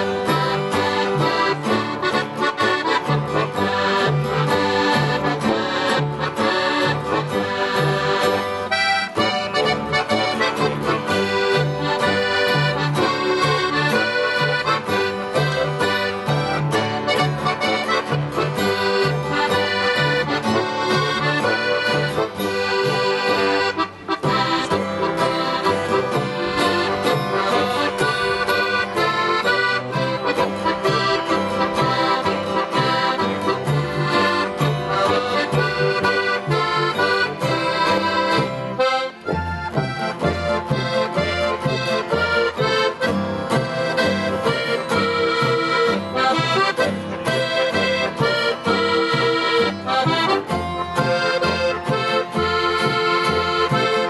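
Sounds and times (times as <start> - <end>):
acoustic guitar: 0.0 - 54.0
button accordion melody: 0.0 - 54.0
tuba: 0.0 - 54.0
upright double bass: 0.0 - 54.0.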